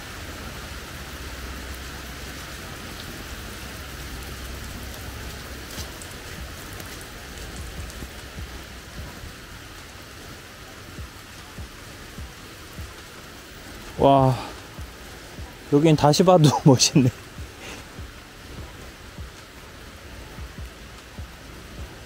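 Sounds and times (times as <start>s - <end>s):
rain on grass and stone: 0.0s - 22.0s.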